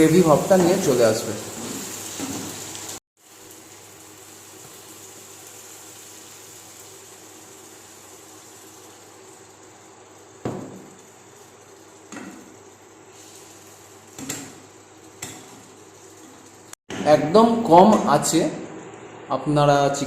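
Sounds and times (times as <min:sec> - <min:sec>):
curry simmering and sizzling: 0:00.0 - 0:16.8.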